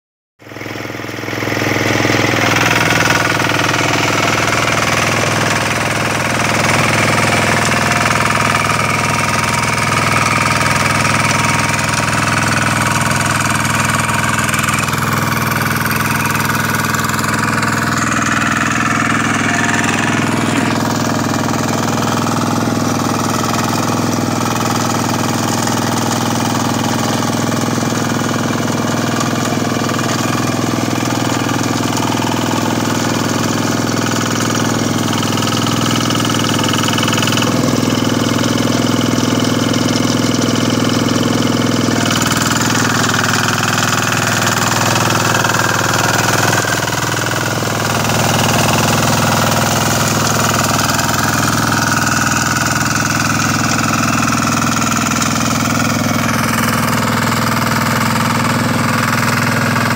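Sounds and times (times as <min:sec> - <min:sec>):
diesel tiller engine running: 0:00.4 - 0:59.9.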